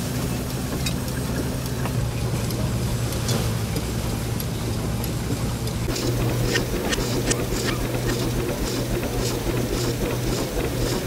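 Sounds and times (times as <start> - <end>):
threshing machine humming: 1.2 - 11.0.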